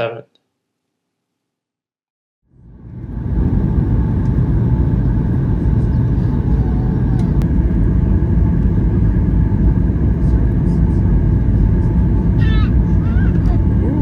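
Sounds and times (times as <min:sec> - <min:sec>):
airplane cabin rumble: 0:02.5 - 0:14.0.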